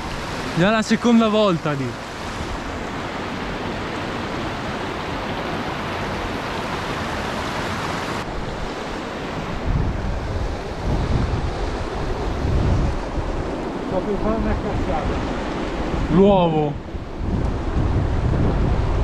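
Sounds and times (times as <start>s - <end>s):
wind buffeting microphone: 2.0s - 19.0s.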